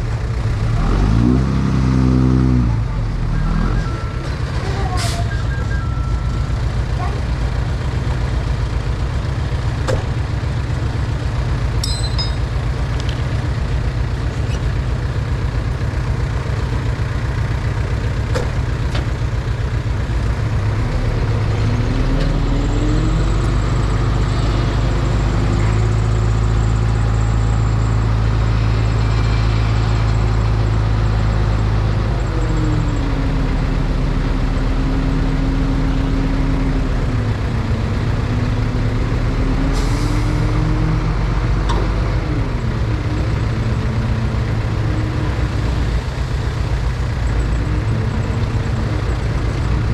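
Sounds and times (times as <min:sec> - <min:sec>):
heavy diesel engine revving: 0:00.0 - 0:11.7, 0:12.9 - 0:49.9.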